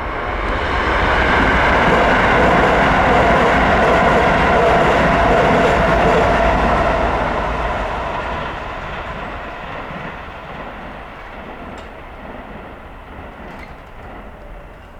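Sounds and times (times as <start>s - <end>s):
train passing: 0.0s - 14.9s.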